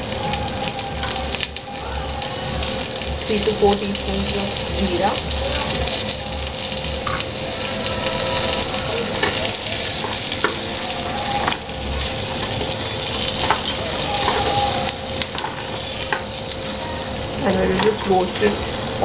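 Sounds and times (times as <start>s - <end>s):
spices sizzling in a hot pan: 0.0s - 19.0s.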